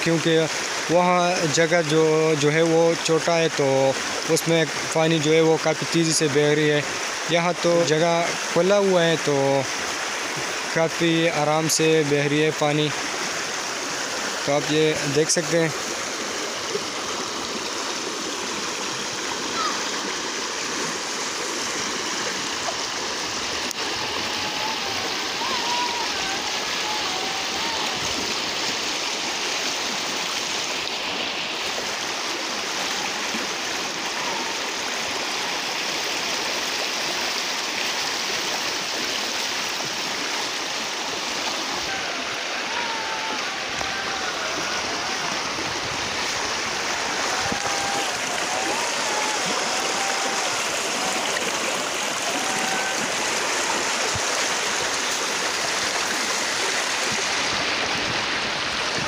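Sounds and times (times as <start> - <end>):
stream rushing: 0.0 - 59.0.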